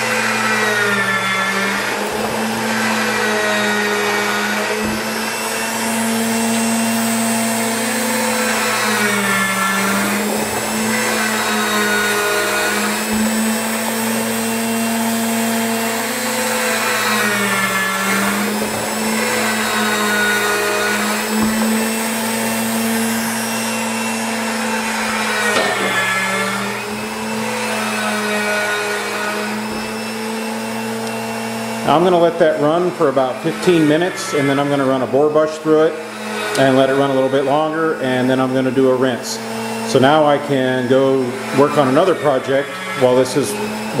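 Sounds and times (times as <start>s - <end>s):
electric gear motor humming: 0.0s - 44.0s.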